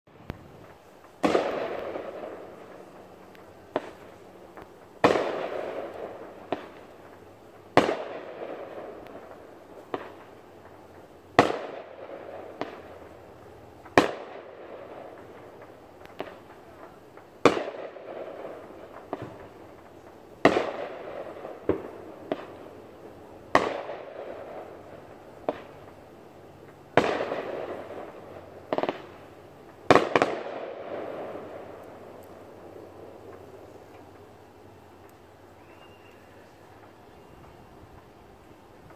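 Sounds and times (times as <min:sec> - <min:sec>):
fireworks bursting: 0:00.1 - 0:38.9
small firework pops: 0:00.2 - 0:38.9.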